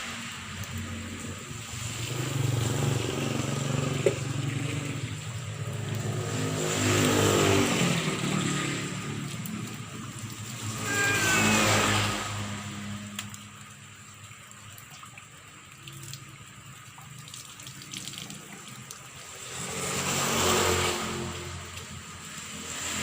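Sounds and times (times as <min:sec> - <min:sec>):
vehicles passing by: 0:00.0 - 0:23.0.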